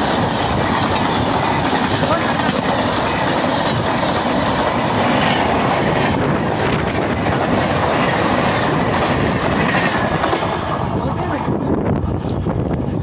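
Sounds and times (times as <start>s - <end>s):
wheels clacking over rail joints: 0.0s - 11.4s
train wheels rumbling on rails: 0.0s - 13.0s.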